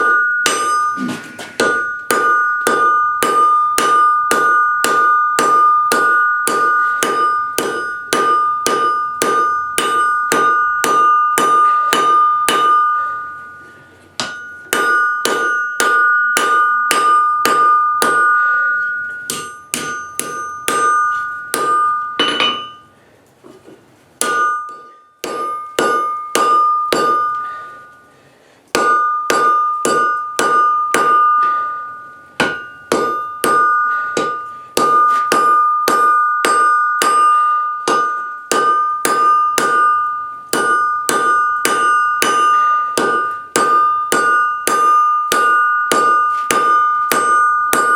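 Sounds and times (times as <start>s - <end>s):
hammer blows on ringing anvil: 0.0s - 23.0s, 24.2s - 47.9s.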